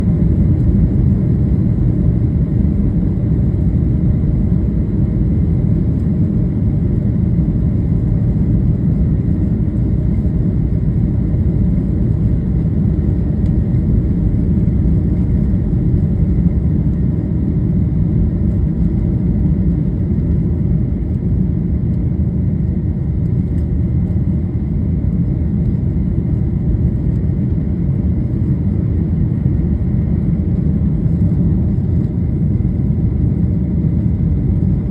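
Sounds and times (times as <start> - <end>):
jet engines rumbling: 0.0 - 34.9.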